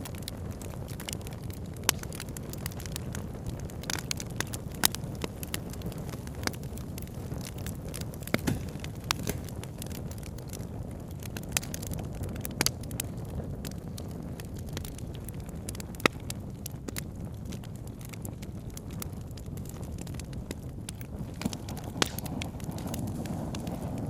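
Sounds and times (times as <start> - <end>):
burning wood popping: 0.0 - 24.0
campfire crackling: 0.0 - 24.0.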